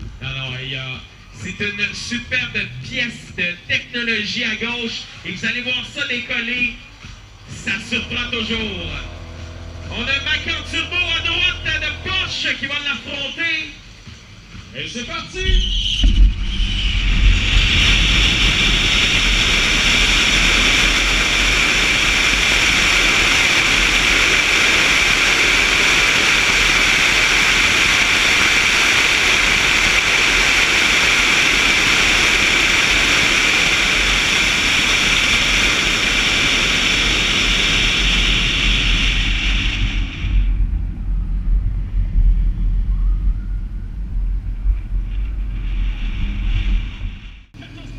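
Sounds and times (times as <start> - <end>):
rushing wind noise: 0.0 - 47.6
low road rumble: 0.0 - 47.9.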